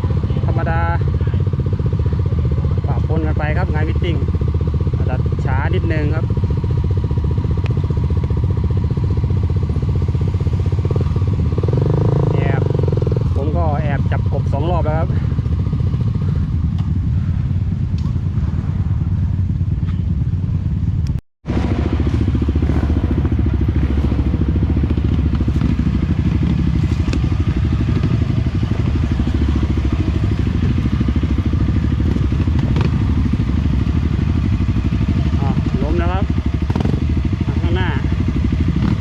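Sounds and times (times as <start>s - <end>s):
dirt bike engine at low revs: 0.0s - 39.0s.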